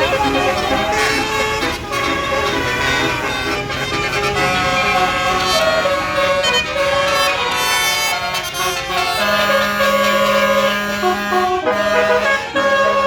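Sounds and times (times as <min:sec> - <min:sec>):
multi-tone air horn melody: 0:00.0 - 0:13.0.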